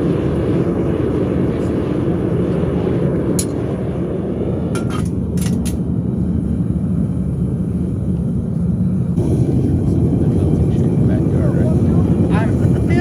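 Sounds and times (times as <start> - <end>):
furnace burner rumbling: 0.0 - 13.0.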